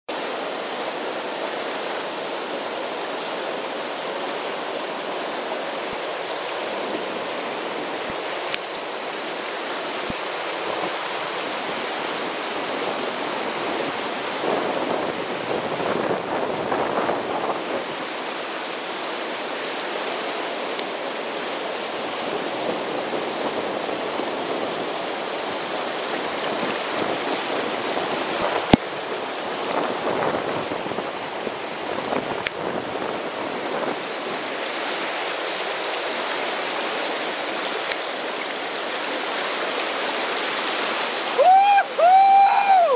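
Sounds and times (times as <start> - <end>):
whitewater rapids rushing: 0.1 - 42.9.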